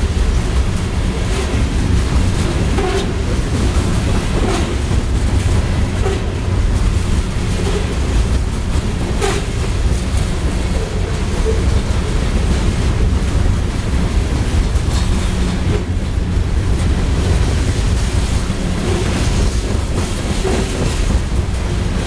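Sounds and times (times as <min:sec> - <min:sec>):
train cars rumbling past: 0:00.0 - 0:22.0.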